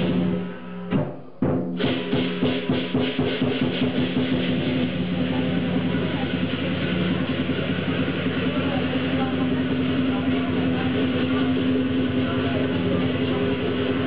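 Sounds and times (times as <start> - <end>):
clashing cymbals: 0.0 - 14.0
drum beaten fast: 0.0 - 14.0.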